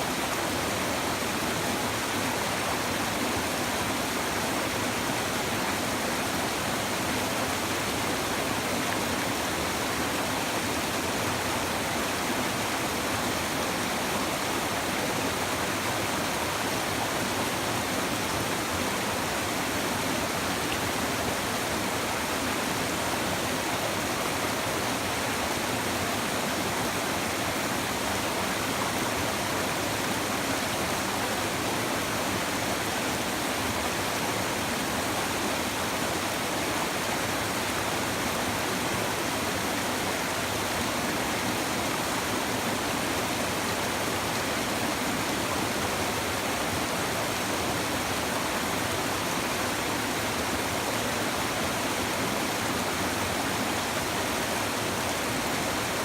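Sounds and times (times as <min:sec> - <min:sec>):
river water babbling over stones: 0:00.0 - 0:56.0.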